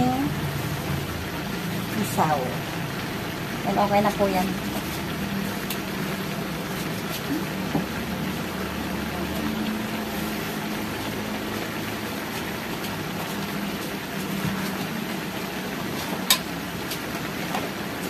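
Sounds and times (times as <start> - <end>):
food simmering in a wok: 0.0 - 18.0.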